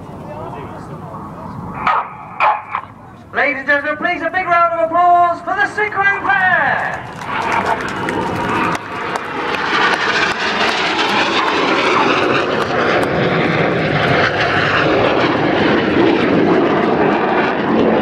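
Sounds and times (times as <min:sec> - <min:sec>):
jets passing by: 0:00.0 - 0:18.0.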